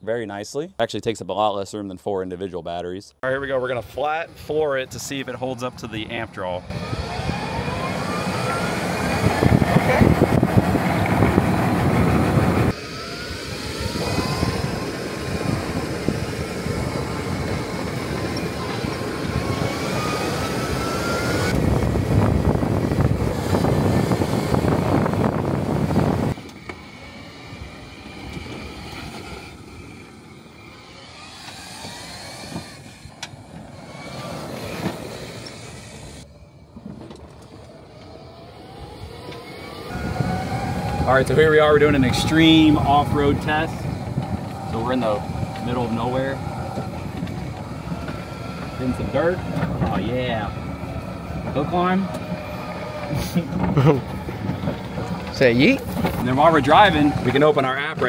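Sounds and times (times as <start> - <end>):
wind and tyres rushing: 3.6 - 58.0
electric motor whine rising: 6.7 - 58.0.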